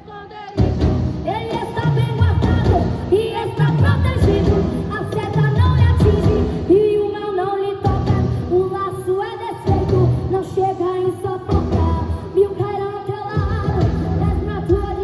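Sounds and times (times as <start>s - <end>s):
woman singing gospel: 0.0s - 15.0s.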